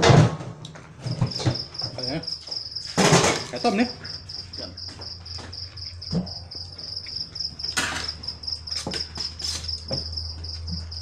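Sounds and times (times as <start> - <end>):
insect chirping: 1.0 - 11.0.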